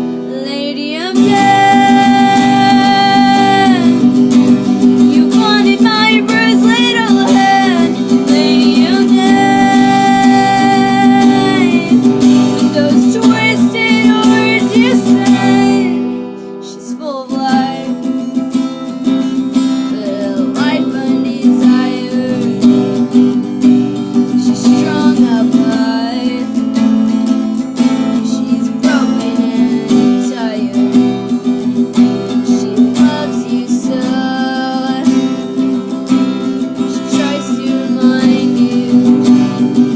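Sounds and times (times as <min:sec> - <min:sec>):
strummed acoustic guitar: 0:00.0 - 0:39.9
woman singing: 0:00.0 - 0:39.9.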